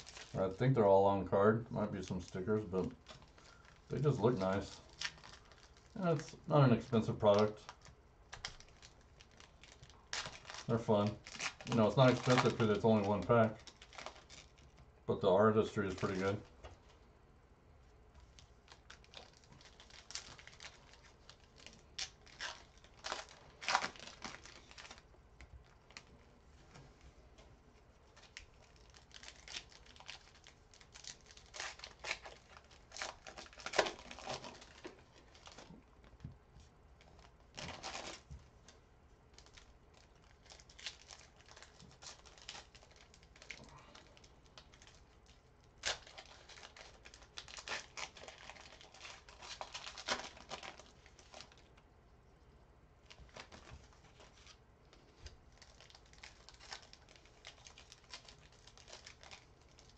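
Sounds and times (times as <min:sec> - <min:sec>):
plastic packaging crinkling and tearing: 0:00.0 - 0:00.9, 0:01.8 - 0:17.0, 0:18.2 - 0:26.3, 0:27.8 - 0:51.8, 0:53.0 - 0:59.9.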